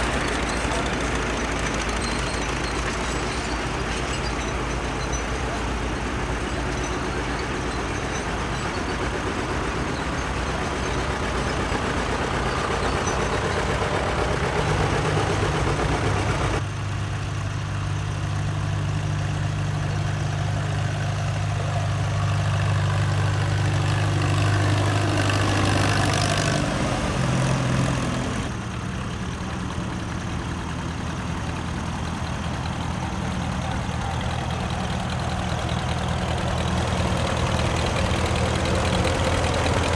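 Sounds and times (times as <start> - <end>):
tractor engines droning: 0.0 - 39.9.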